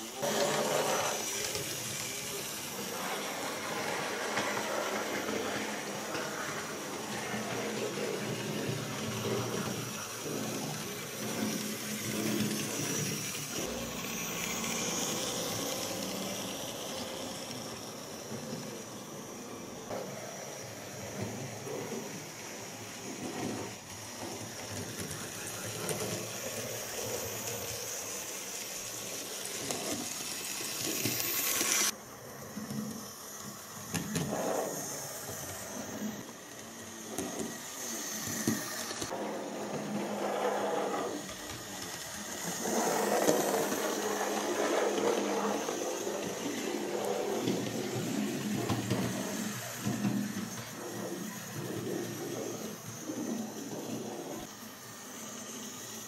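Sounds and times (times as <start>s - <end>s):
small electric motors whirring: 0.0s - 56.0s.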